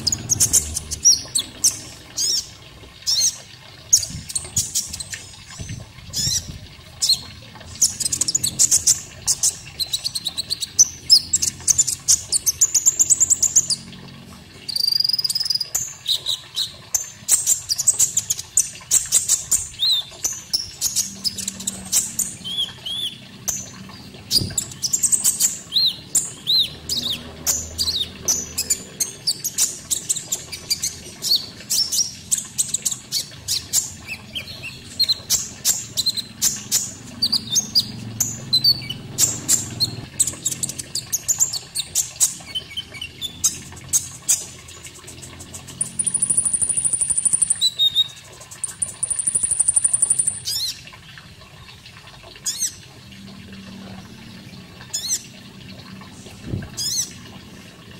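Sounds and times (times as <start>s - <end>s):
bird chirping and trilling: 0.0s - 13.9s, 14.7s - 50.8s, 56.8s - 57.2s.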